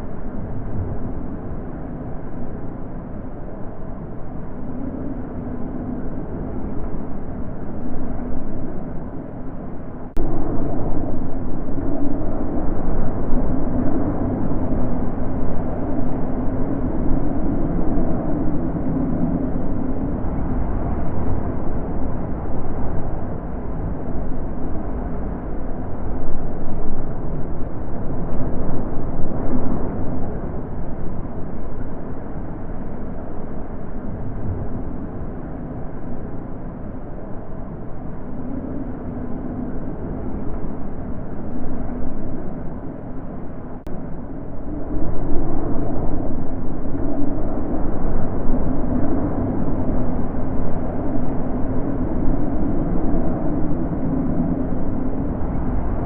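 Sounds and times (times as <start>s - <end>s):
wind blowing in gusts: 0.0s - 56.0s.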